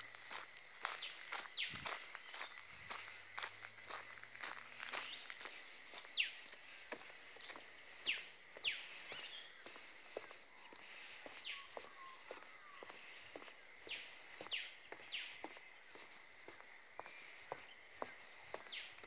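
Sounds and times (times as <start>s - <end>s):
footsteps on a path: 0.0s - 19.0s
high insect drone: 0.0s - 19.0s.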